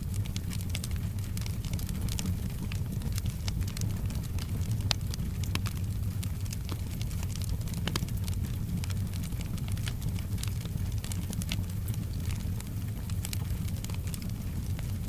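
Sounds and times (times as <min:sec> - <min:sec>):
low fire rumble: 0:00.0 - 0:15.0
soft rain: 0:00.0 - 0:15.0
wood fire crackling: 0:00.0 - 0:15.0.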